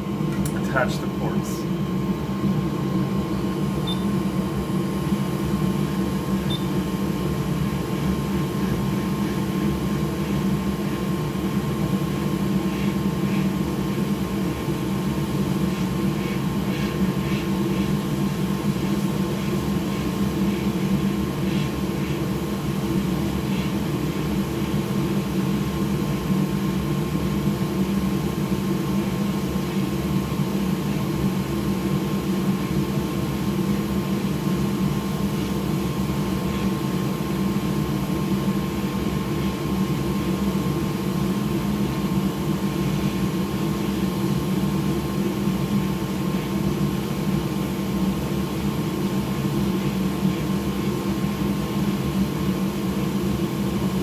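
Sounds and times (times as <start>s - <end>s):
hot-air rework station whirring: 0.0s - 54.0s.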